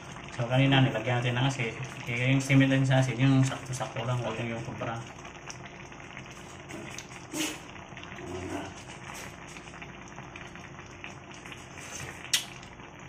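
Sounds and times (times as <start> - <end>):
broth bubbling in a wok: 0.0 - 13.0.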